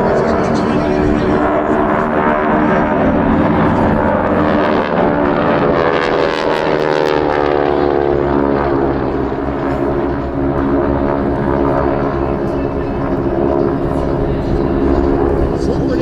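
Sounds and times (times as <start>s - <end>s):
propeller planes flying by: 0.0s - 16.0s.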